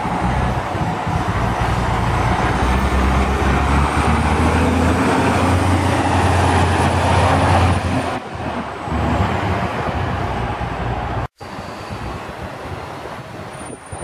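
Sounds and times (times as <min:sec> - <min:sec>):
bus diesel engine accelerating: 0:00.0 - 0:14.0.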